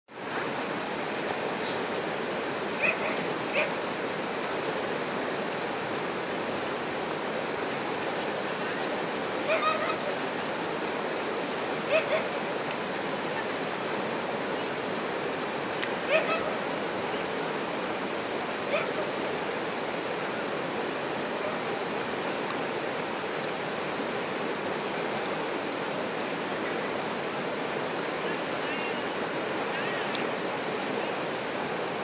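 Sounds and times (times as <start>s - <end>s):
river rapids rushing over rocks: 0.1s - 32.0s.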